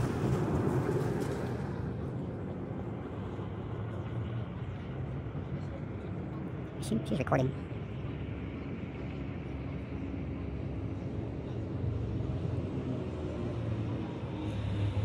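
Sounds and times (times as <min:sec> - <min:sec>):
low vehicle engine rumble: 0:00.0 - 0:15.0.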